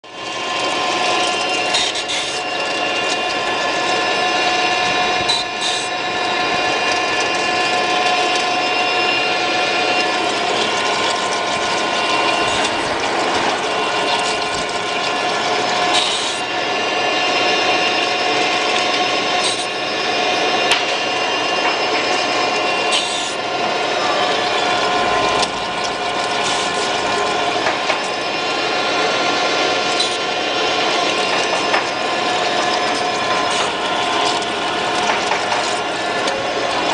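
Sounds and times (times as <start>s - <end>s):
milling machine whine: 0.0s - 36.9s.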